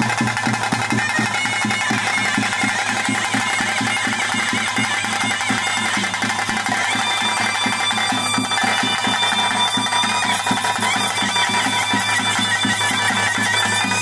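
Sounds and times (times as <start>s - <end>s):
quick drum beat: 0.0s - 14.0s
wind instrument melody: 0.0s - 14.0s.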